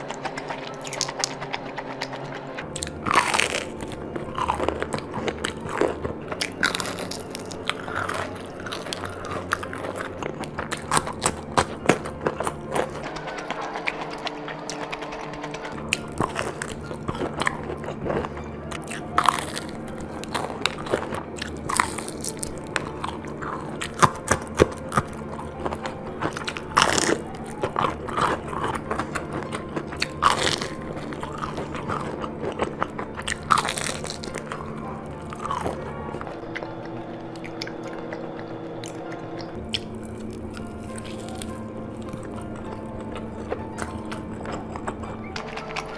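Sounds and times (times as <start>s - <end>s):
person biting and chewing food: 0.0s - 45.9s.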